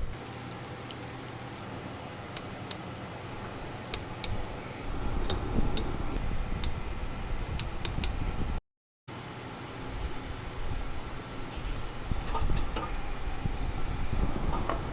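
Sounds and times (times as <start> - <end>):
steady background hum: 0.0 - 14.9.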